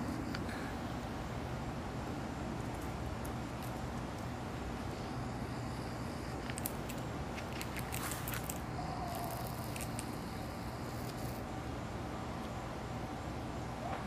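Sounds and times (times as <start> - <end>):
outdoor background hum and hiss: 0.0 - 14.0.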